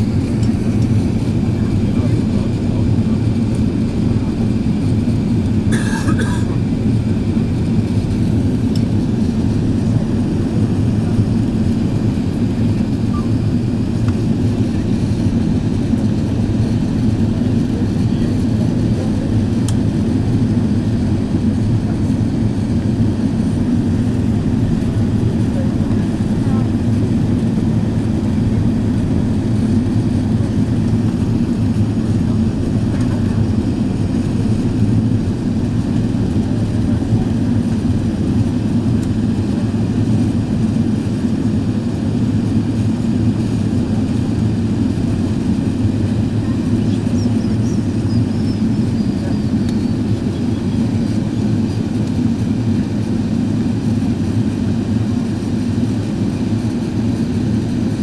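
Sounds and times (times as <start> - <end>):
airplane cabin engine and airflow noise: 0.0 - 58.0.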